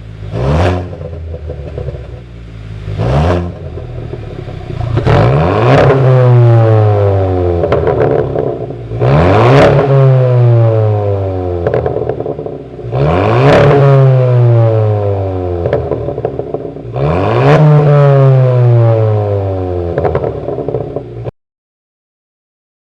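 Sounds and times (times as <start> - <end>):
car engine revving: 0.0 - 21.3
exhaust popping and crackling: 0.0 - 21.3.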